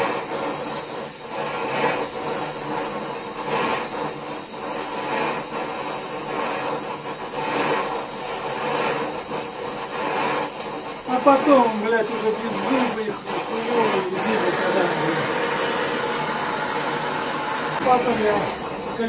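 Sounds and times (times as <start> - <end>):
gas torch flame hissing: 0.0 - 19.0
rough welding noise: 0.0 - 19.0.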